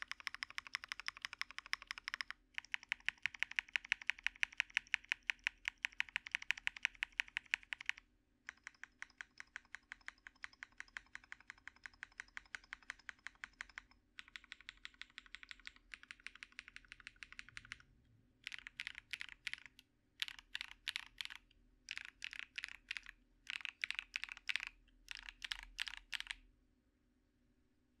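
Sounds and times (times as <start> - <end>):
fast typing on mechanical keyboard: 0.0 - 17.8, 18.4 - 26.4.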